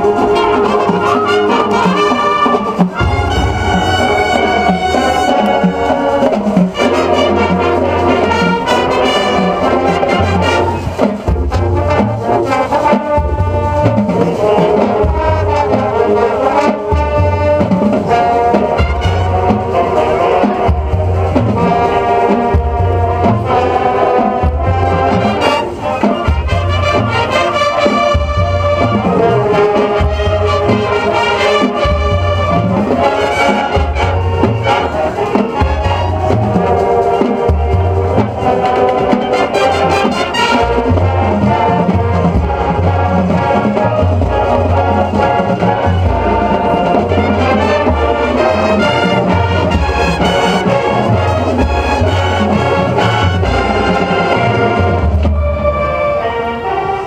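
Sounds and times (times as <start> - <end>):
marching band playing: 0.0 - 57.0.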